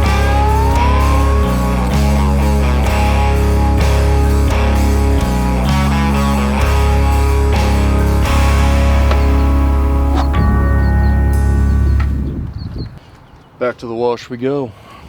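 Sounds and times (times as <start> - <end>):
rock music with guitar and bass: 0.0 - 13.0.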